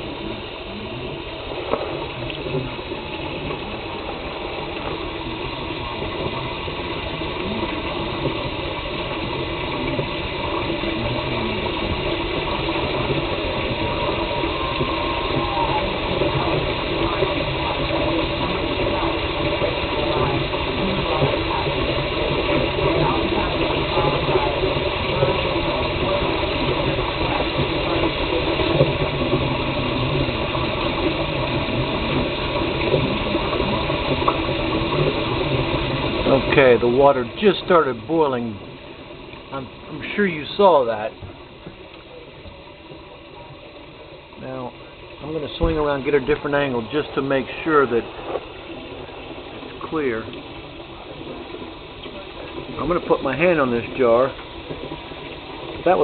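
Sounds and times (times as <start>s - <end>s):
tap water rushing: 0.0s - 56.0s.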